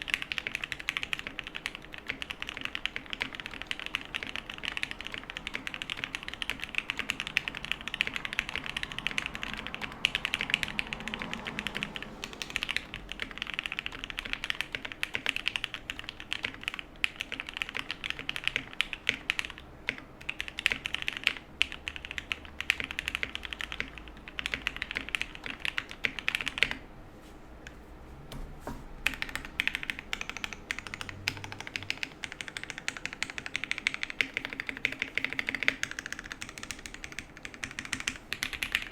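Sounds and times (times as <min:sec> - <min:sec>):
typing on mechanical keyboard: 0:00.0 - 0:26.8, 0:29.0 - 0:38.9.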